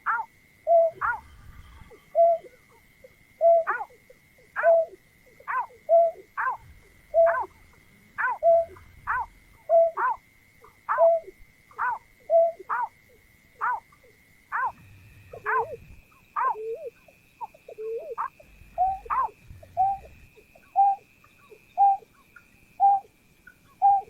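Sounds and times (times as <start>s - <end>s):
bird calling: 0.0s - 24.0s
thin steady high tone: 0.0s - 24.0s.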